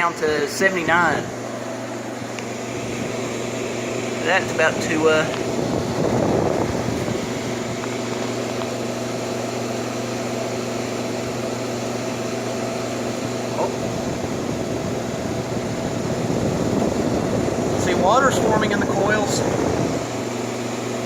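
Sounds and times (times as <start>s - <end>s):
air conditioner humming: 0.0s - 21.0s
rush of air from blower: 0.3s - 21.0s.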